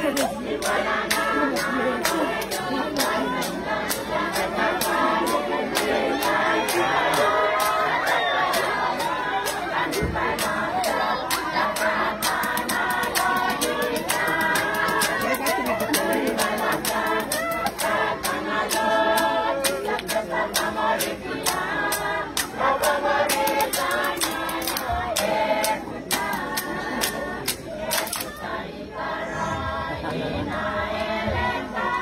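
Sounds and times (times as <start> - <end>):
sharp percussion beats: 0.0 - 28.5
group singing in harmony: 0.0 - 32.0.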